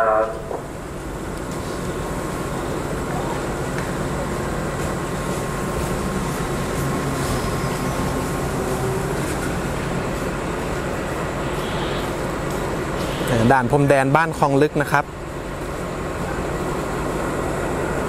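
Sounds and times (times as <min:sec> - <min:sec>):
diesel train rumble and hum: 0:00.0 - 0:18.0.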